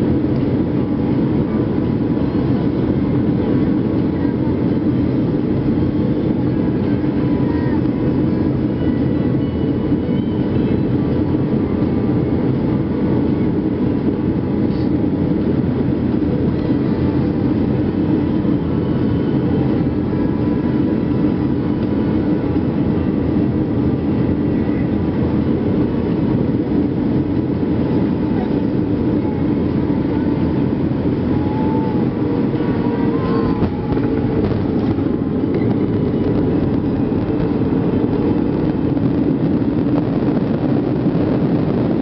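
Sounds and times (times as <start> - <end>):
jet airliner cabin noise: 0.0 - 42.0.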